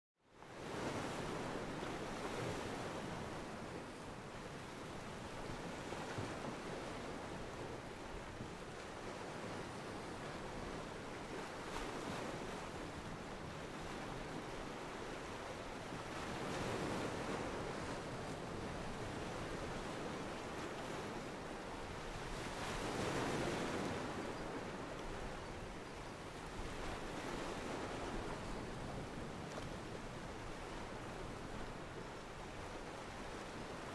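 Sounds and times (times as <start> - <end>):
wind: 0.2 - 33.9.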